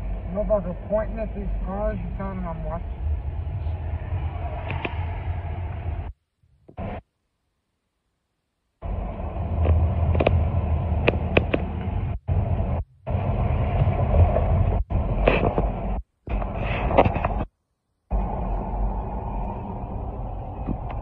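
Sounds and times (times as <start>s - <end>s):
car road noise rumble: 0.0s - 7.0s, 8.8s - 17.5s, 18.1s - 21.0s.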